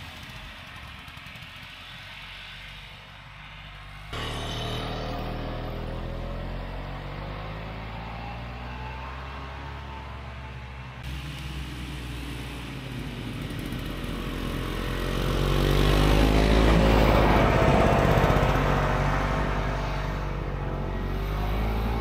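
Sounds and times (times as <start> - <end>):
snowmobile engine passing: 0.0 - 22.0.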